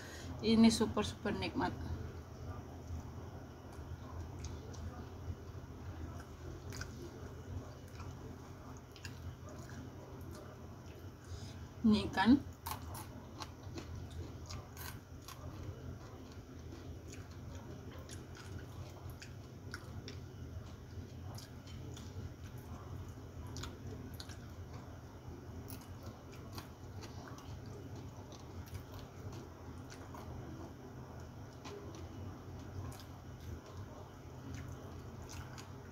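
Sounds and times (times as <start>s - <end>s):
chewing and mouth clicks: 3.7s - 11.3s, 12.5s - 25.0s, 25.6s - 35.9s.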